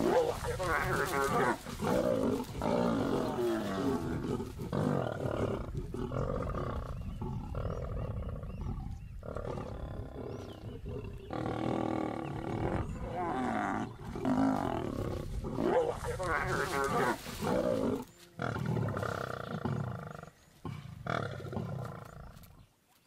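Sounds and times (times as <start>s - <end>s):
lions growling and snarling: 0.0s - 22.6s.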